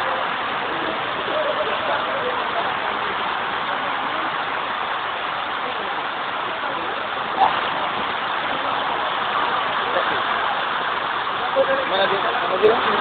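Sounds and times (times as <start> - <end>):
heavy rain: 0.0 - 13.0
rushing water: 0.0 - 13.0.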